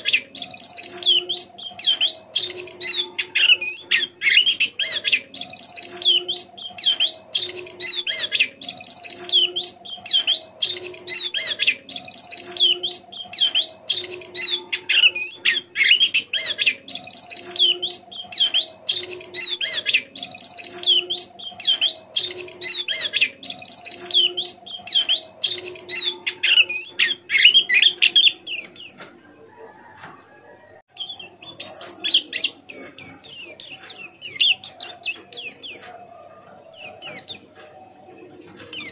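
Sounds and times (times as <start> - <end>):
bird twittering and trilling: 0.0 - 30.2, 30.9 - 38.9.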